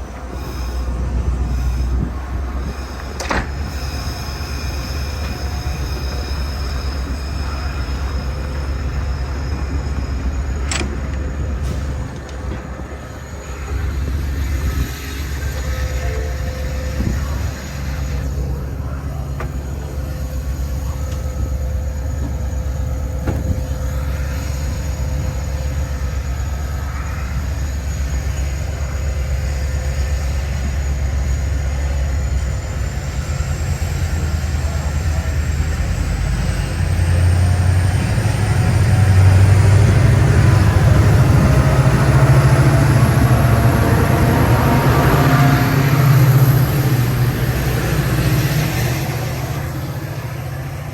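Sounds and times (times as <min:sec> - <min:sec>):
diesel locomotive drone: 0:00.0 - 0:50.9.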